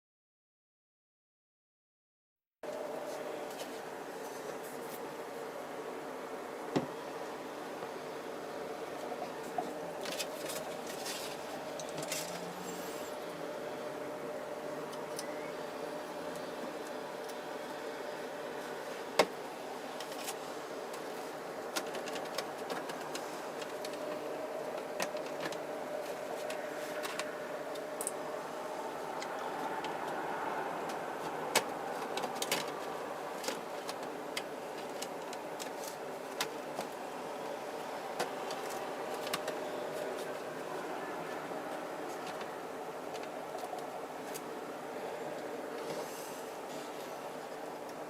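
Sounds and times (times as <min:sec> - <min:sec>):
steady hum: 0:02.6 - 0:48.0.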